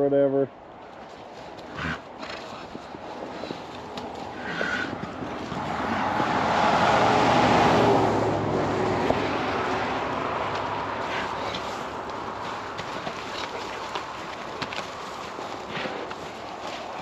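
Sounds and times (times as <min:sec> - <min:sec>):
motor vehicle passing by: 0:01.6 - 0:17.0.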